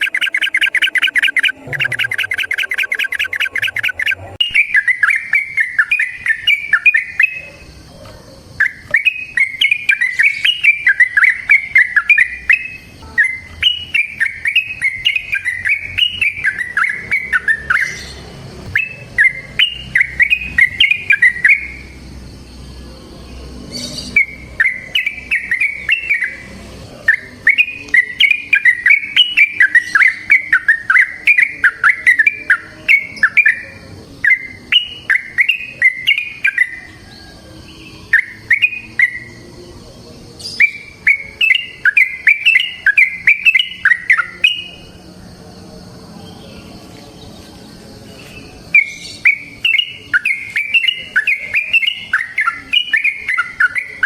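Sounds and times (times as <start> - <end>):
bird singing chattering whistles: 0.0 - 7.8, 8.4 - 22.0, 23.7 - 37.2, 38.0 - 39.5, 40.4 - 44.9, 48.6 - 54.0.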